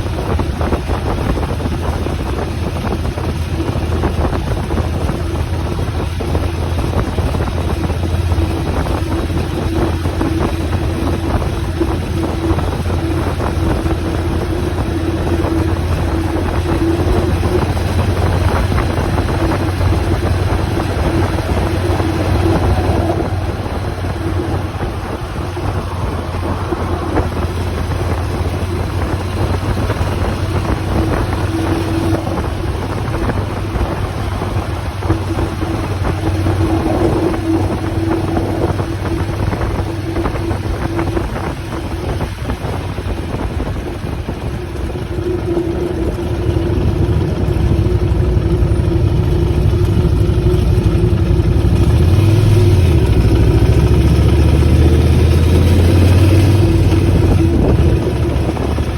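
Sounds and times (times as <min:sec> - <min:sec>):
motorcycle engine running: 0:00.0 - 0:58.9
wind buffeting microphone: 0:00.0 - 0:58.9.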